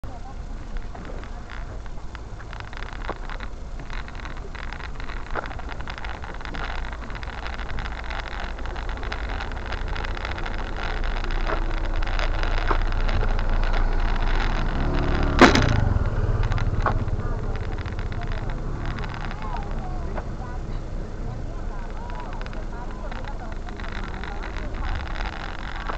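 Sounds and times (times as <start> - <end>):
wind and road rumble: 0.0 - 25.9.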